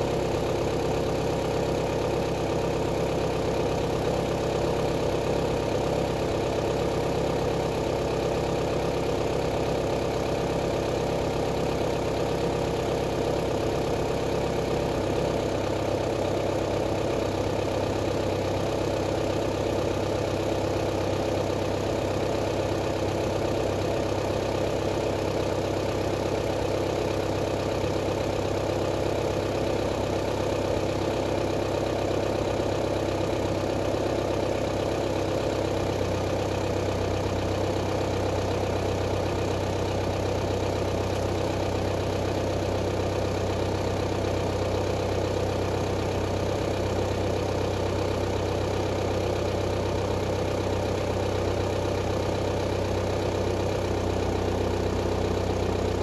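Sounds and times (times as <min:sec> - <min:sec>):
diesel engine idling unmuffled: 0:00.0 - 0:56.0.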